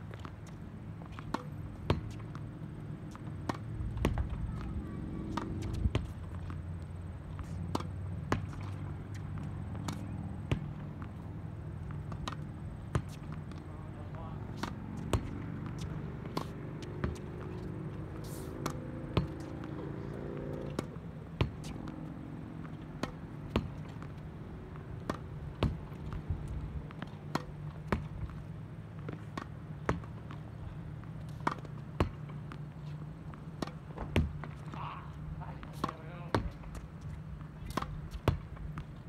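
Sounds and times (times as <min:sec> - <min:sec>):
racket hitting tennis ball: 0:00.1 - 0:39.0.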